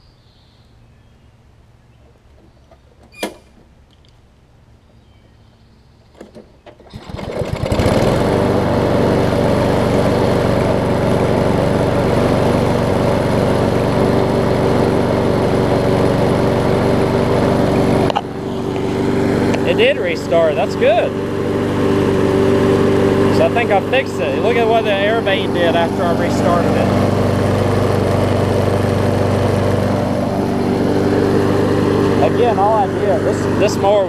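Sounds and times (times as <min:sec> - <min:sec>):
mower engine running: 0:06.2 - 0:34.0.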